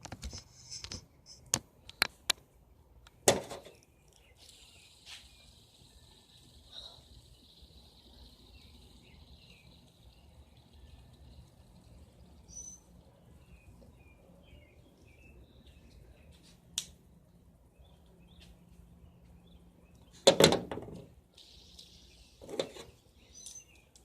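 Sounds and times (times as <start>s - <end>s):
birds chirping faintly: 0.3s - 24.0s.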